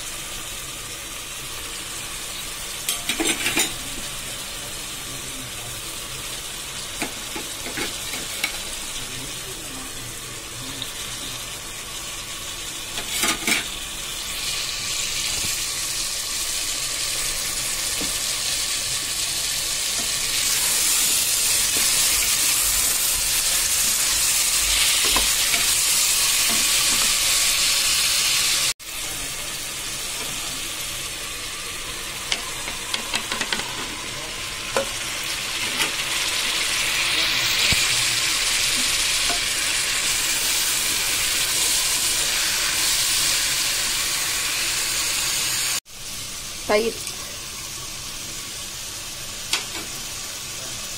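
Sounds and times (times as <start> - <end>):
vegetables sizzling in oil: 0.0 - 50.9.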